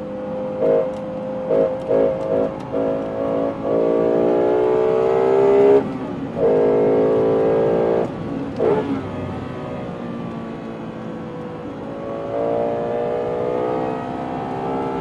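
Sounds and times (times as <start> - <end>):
car engine revving from inside cabin: 0.2 - 9.0, 11.8 - 15.0.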